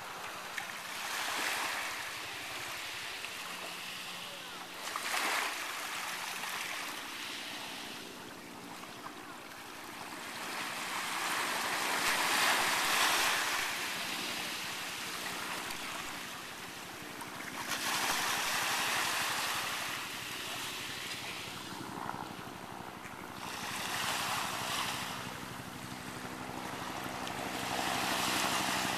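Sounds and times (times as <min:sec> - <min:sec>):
small waves washing on beach: 0:00.0 - 0:28.9.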